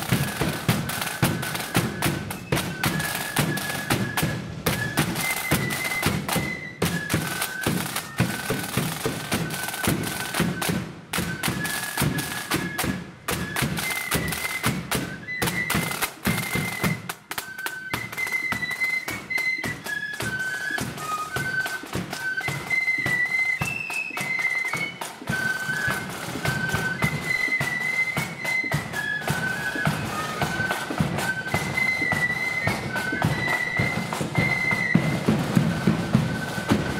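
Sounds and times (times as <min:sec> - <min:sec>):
flutes playing high melody: 0:00.0 - 0:36.9
snare drum strokes: 0:00.0 - 0:36.9.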